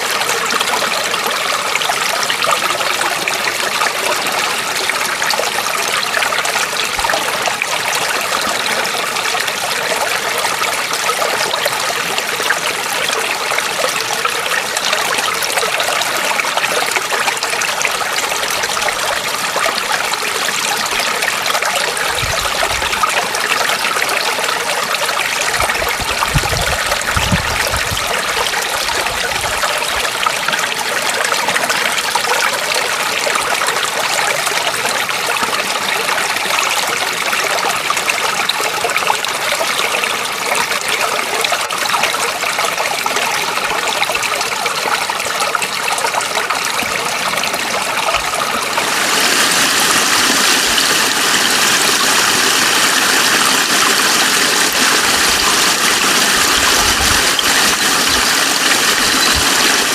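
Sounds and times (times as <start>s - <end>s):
small stream trickling: 0.0s - 59.9s.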